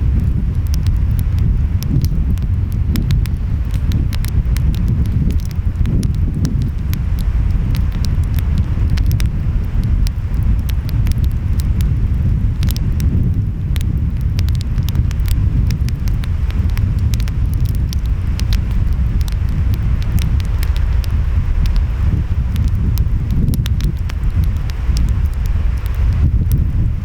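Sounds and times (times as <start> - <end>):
wind: 0.0 - 27.0
wood fire crackling and popping: 0.0 - 27.0.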